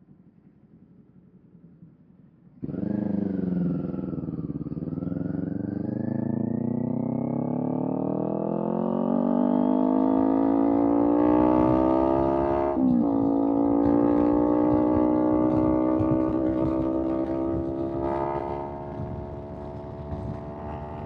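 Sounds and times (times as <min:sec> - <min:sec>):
motorcycle engine revving: 0:02.6 - 0:21.0.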